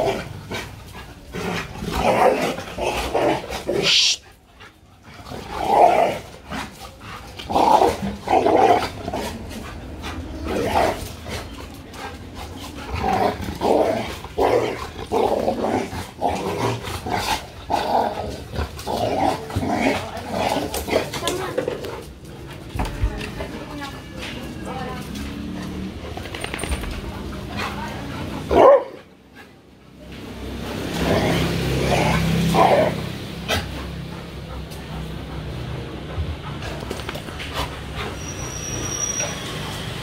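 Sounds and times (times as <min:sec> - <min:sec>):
dogs growling while play-fighting: 0:00.0 - 0:40.0.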